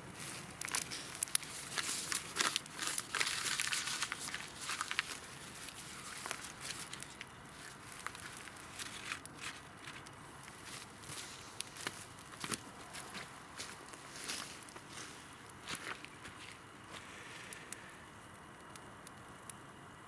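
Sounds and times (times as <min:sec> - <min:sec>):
crinkling and rustling: 0:00.1 - 0:17.8.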